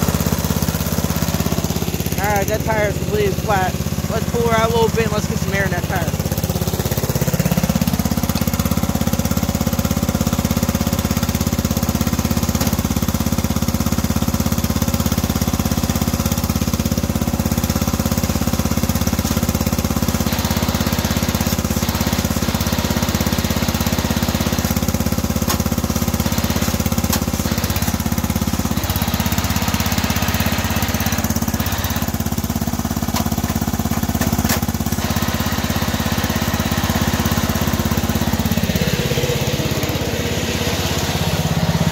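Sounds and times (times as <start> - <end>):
small gasoline engine running: 0.0 - 41.9.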